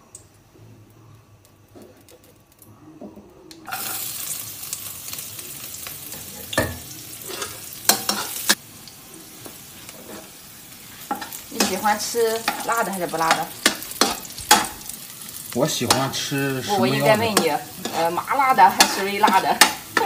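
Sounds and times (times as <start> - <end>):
food sizzling in hot oil: 3.6 - 20.0.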